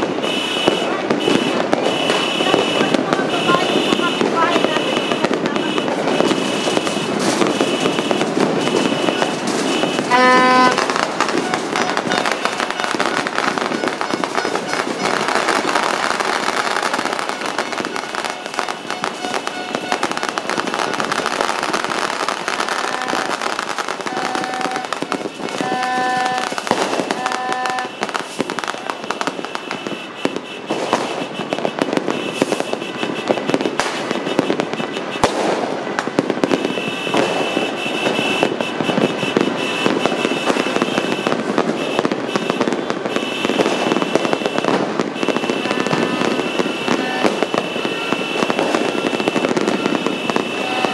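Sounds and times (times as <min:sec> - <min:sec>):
fireworks crackling and banging: 0:00.0 - 0:50.9.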